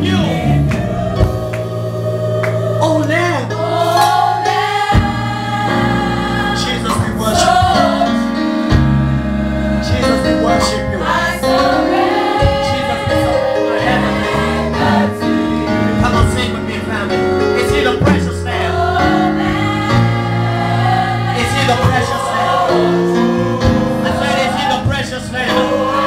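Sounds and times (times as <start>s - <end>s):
gospel choir singing: 0.0s - 26.0s.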